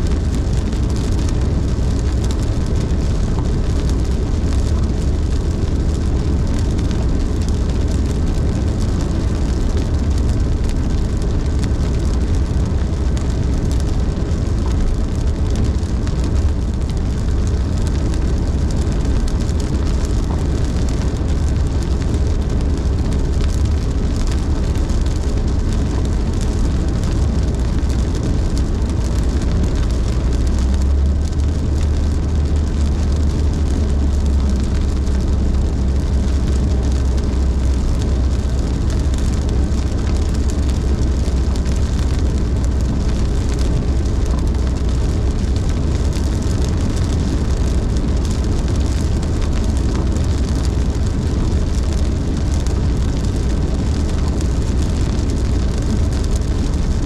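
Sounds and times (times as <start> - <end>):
car driving on wet road: 0.0 - 57.0
rain and water spray hiss: 0.0 - 57.0.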